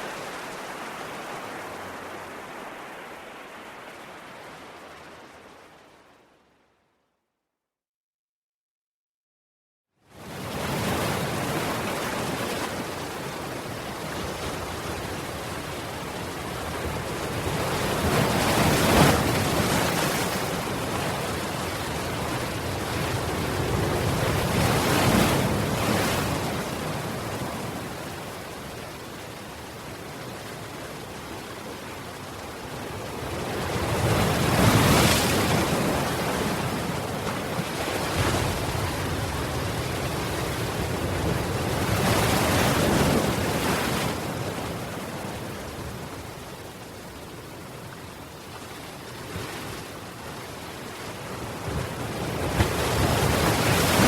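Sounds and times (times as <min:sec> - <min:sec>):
ocean waves on shore: 0:00.0 - 0:06.8, 0:10.1 - 0:54.0.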